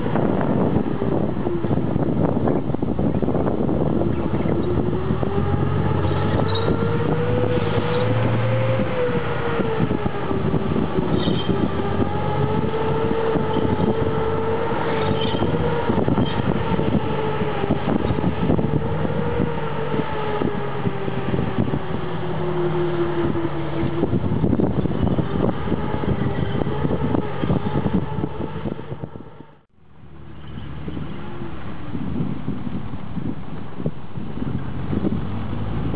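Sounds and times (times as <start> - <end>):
engine whine: 0.0 - 35.9
tank engine running: 0.0 - 35.9.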